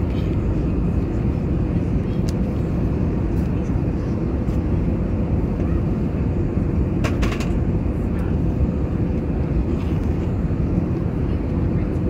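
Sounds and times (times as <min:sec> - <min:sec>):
airplane cabin engine rush: 0:00.0 - 0:12.0.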